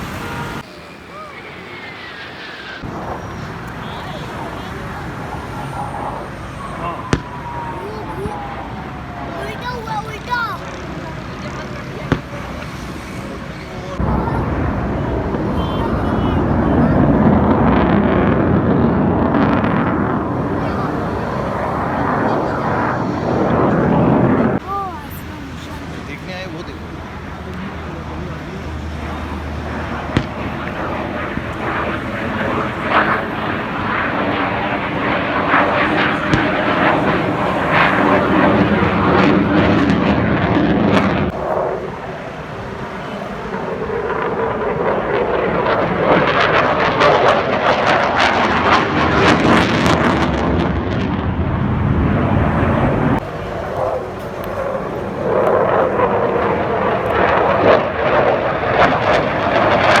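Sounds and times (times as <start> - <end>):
fighter jet flying past: 0.0 - 60.0.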